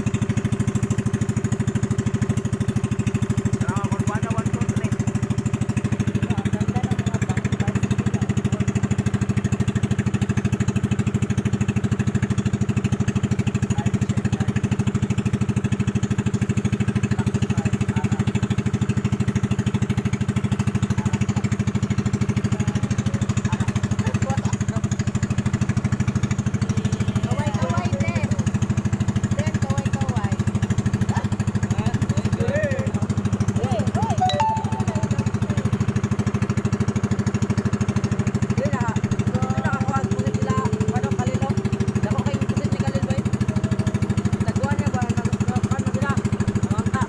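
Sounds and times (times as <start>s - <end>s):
boat engine chugging: 0.0s - 47.0s.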